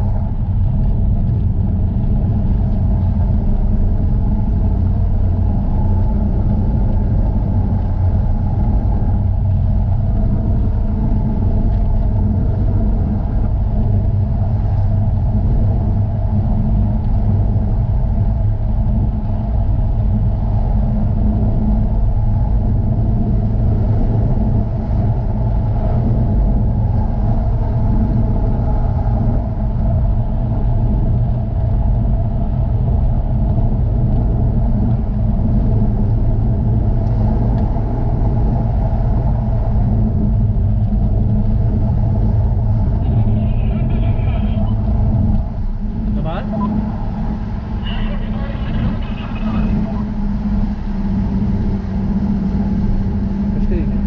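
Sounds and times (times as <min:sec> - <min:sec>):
low road rumble: 0:00.0 - 0:54.0
sports car engine running: 0:00.0 - 0:54.0.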